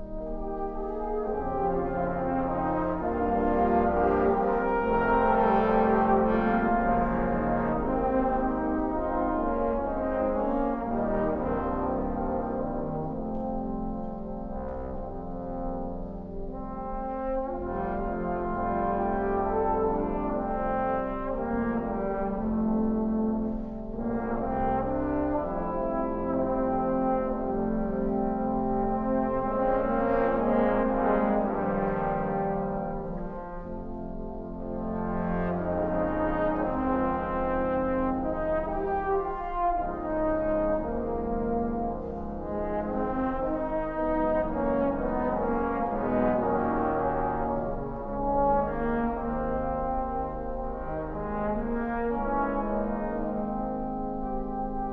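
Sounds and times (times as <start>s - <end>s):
trombone choir playing chords: 0.0s - 54.9s.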